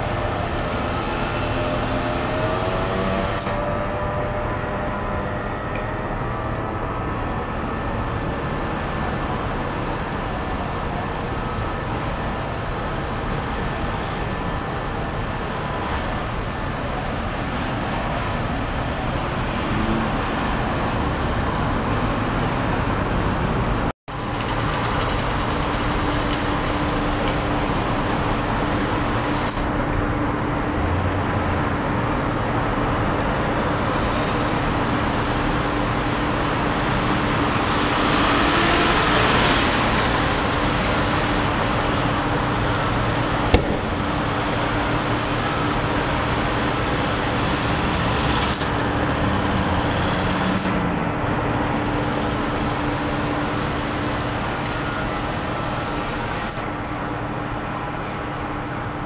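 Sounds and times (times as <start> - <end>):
road traffic roar: 0.0 - 59.0
vehicle engines running: 0.0 - 59.0.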